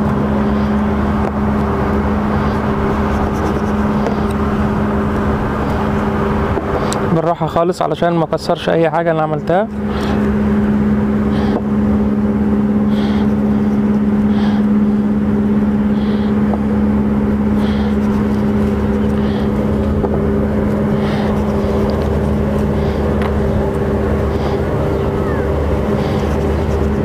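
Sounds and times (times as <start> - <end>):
engine drone: 0.0 - 27.0.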